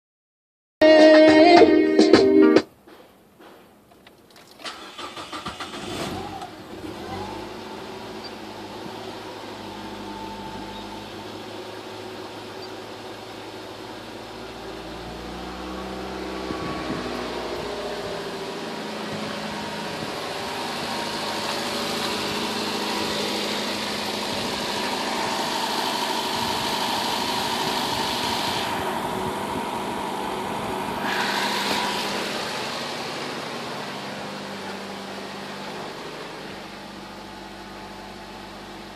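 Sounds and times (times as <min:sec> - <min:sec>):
car engine cranking and starting: 0:03.8 - 0:38.9
car engine droning: 0:04.6 - 0:38.9.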